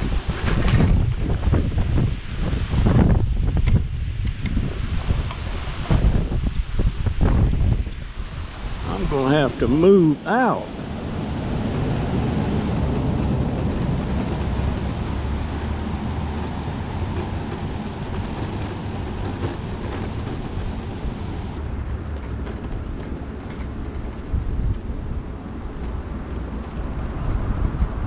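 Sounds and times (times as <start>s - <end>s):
mobility scooter rumbling on asphalt: 0.0s - 28.0s.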